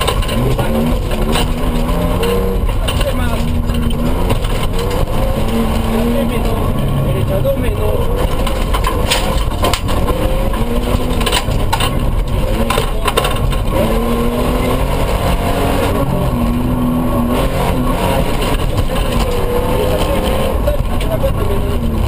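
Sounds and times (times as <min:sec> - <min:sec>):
knocks from rough road: 0:00.0 - 0:07.0, 0:08.0 - 0:16.7, 0:17.6 - 0:22.0
truck engine revving: 0:00.0 - 0:22.0.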